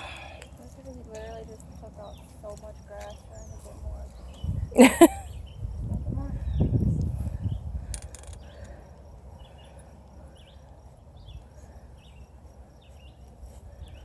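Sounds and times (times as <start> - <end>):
small bird chirping: 1.1 - 14.0.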